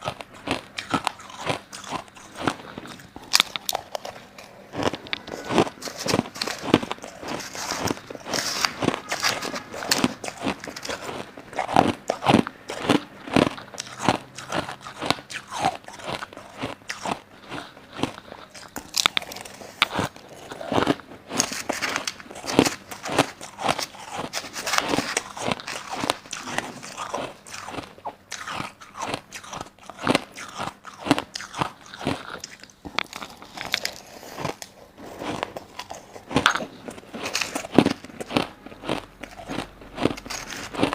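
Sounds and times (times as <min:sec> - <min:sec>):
chewing crushed ice: 0:00.0 - 0:40.9.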